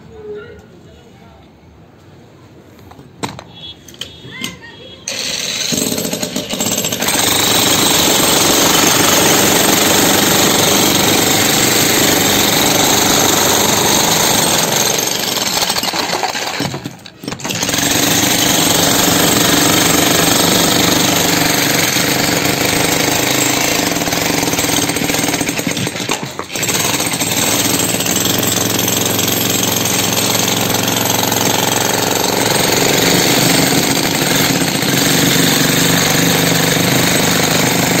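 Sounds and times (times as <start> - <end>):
demolition hammer on concrete: 4.4 - 38.0.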